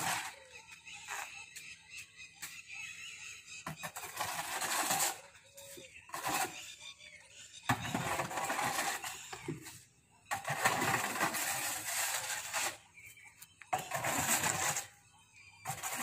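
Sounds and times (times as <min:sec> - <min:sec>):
hoe scraping along concrete floor: 0:00.0 - 0:02.7, 0:03.6 - 0:16.0.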